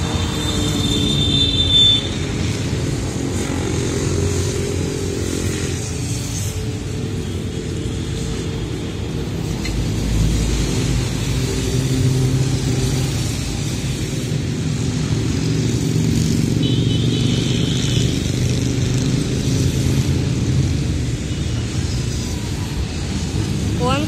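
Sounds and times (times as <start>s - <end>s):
bus passing: 0.0s - 24.0s.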